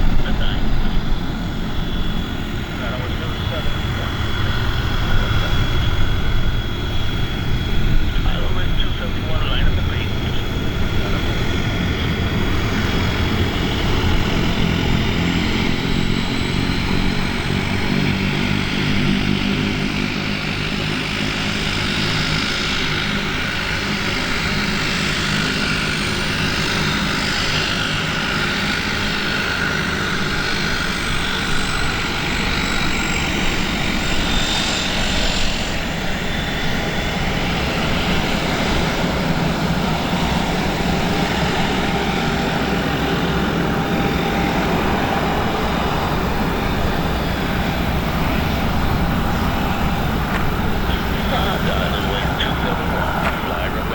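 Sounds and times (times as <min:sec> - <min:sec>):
high turbine whine: 0:00.0 - 0:53.9
propeller drone: 0:00.0 - 0:53.9.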